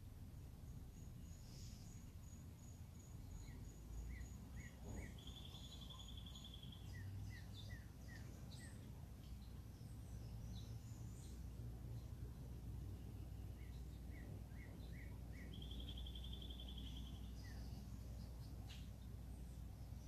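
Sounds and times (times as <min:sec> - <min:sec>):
birds singing: 0:00.9 - 0:20.0.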